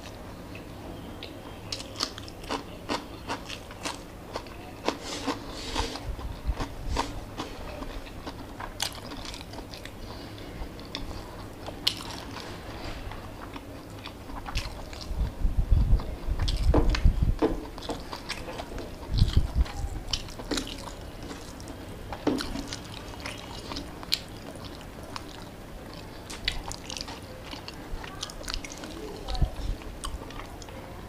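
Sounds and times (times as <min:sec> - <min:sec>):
person chewing with wet smacks: 0:00.0 - 0:30.8.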